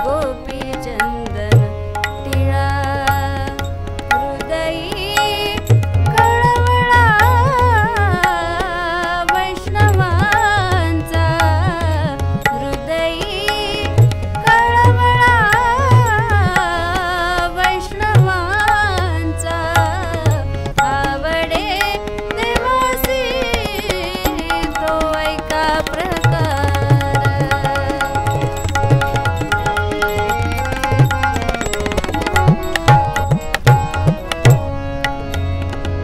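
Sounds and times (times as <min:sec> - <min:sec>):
woman singing devotional song: 0:00.0 - 0:35.8
harmonium chords: 0:00.0 - 0:36.0
tabla rhythm: 0:00.0 - 0:36.0.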